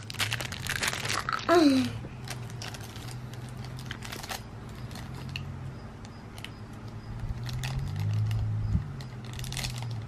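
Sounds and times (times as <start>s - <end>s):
plastic wrapper crinkling: 0.0s - 5.4s, 7.4s - 10.0s.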